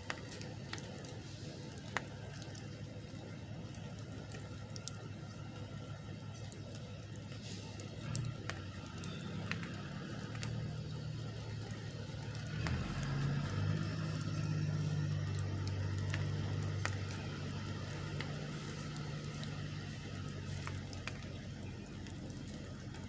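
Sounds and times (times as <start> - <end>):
light ticks: 0.0 - 5.6, 6.4 - 23.0
truck engine droning: 0.0 - 23.0.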